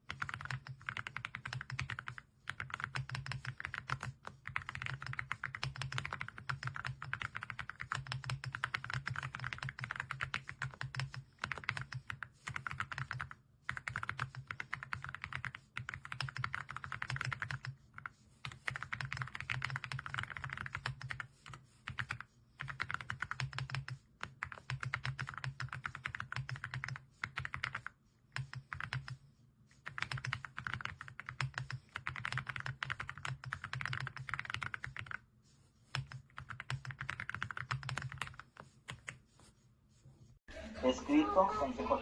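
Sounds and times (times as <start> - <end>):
mechanical keyboard typing: 0.0 - 17.7, 18.5 - 21.3, 21.9 - 29.2, 29.8 - 35.2, 35.9 - 39.2.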